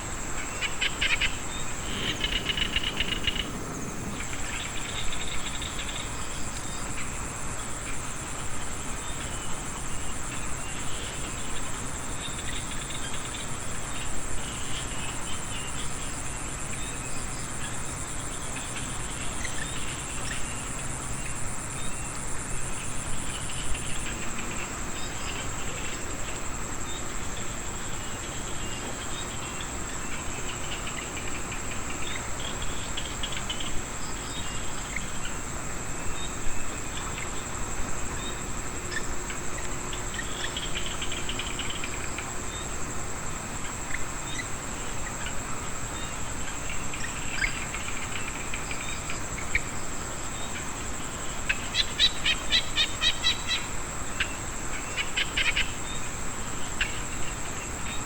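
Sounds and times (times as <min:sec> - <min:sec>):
frogs calling: 0:00.0 - 0:58.0
high-pitched insect trills: 0:00.0 - 0:58.0.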